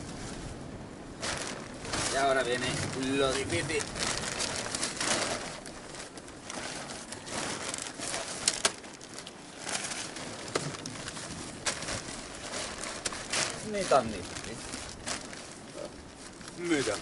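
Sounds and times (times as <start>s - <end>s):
nylon tent fabric rustling: 0.0s - 17.0s
tent frame hoops scraping: 0.0s - 17.0s.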